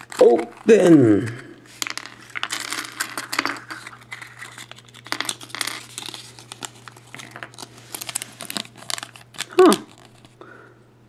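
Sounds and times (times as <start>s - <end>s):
paper leaflet crinkling: 0.0s - 0.9s, 1.7s - 10.4s.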